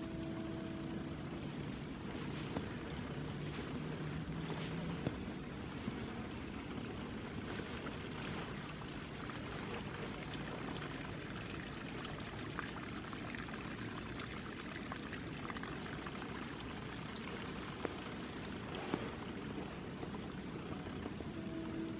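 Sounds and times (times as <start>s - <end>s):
stream trickling over stones: 0.0s - 21.9s.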